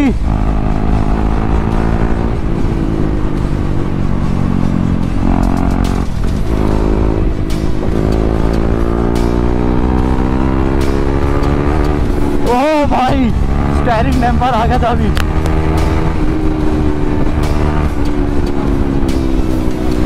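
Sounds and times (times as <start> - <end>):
motorcycle engine revving: 0.0 - 20.0
wind rumble: 0.0 - 20.0.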